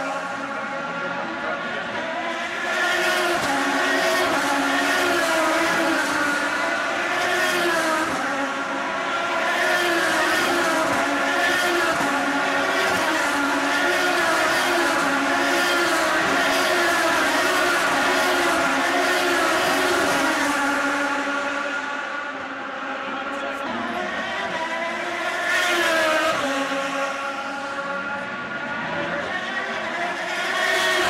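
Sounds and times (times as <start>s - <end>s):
race car engines at high revs: 0.0s - 31.0s.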